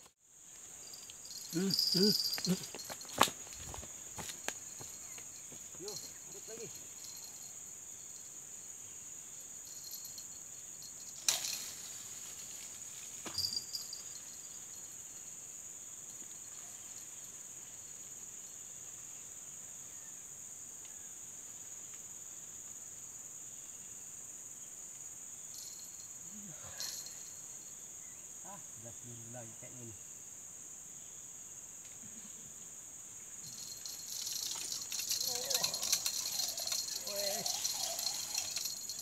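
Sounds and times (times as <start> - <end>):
insects chorus: 0.0 - 39.0.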